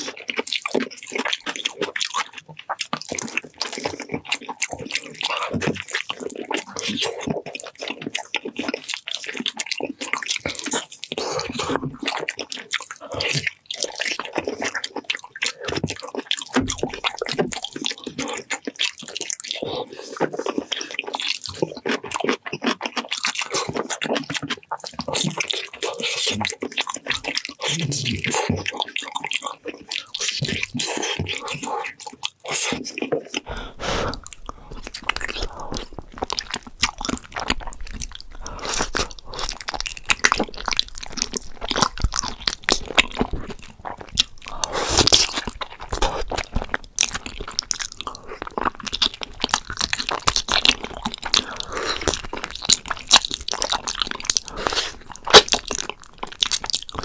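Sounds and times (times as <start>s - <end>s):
biting and chewing food: 0.0s - 57.0s.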